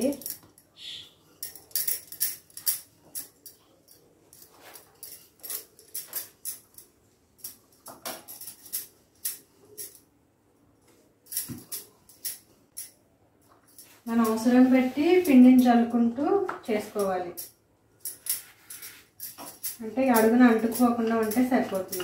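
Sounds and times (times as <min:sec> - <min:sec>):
bangles clinking: 0:00.0 - 0:10.1, 0:11.2 - 0:14.6, 0:16.9 - 0:22.0.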